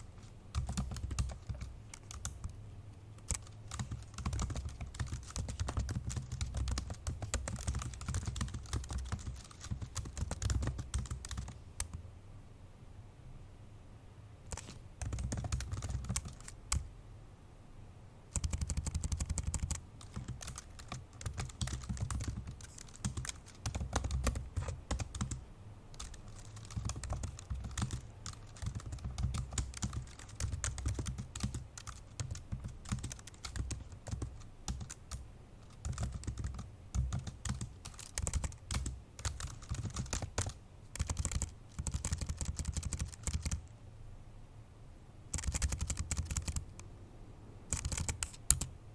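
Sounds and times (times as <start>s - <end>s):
fast laptop keyboard typing: 0.0s - 2.6s, 3.2s - 12.0s, 14.5s - 16.9s, 18.3s - 43.7s, 45.3s - 46.8s, 47.7s - 48.8s.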